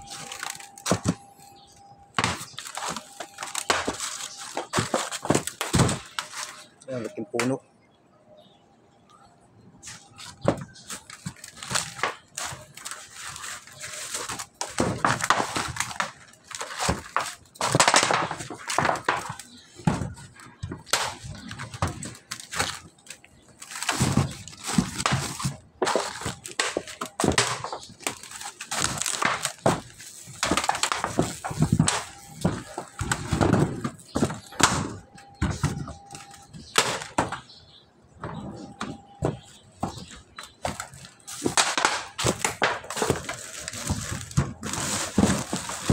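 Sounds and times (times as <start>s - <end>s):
rustling on metal roof: 0.0s - 7.2s, 9.8s - 45.9s.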